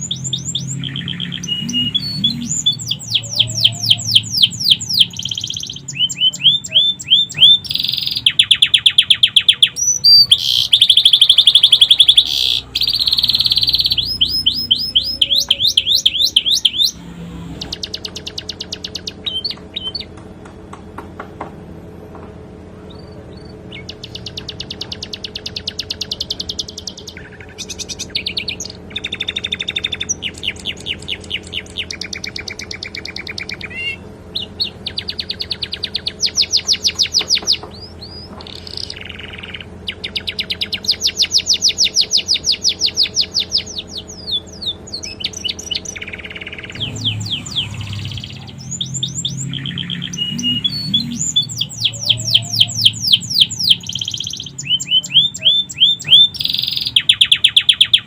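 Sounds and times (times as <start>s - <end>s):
canary singing trills: 0.0s - 20.2s, 22.9s - 58.0s.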